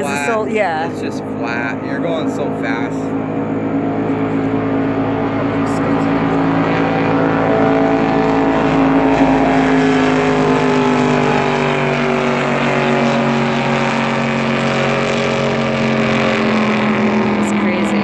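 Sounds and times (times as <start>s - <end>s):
powerboat engine running: 0.0s - 18.0s.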